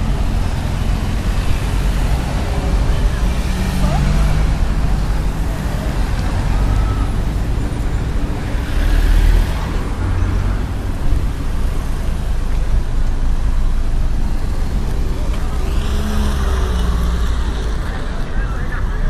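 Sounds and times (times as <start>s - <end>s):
car engine and tyre noise: 0.0s - 19.0s
cars driving close by: 0.0s - 19.0s.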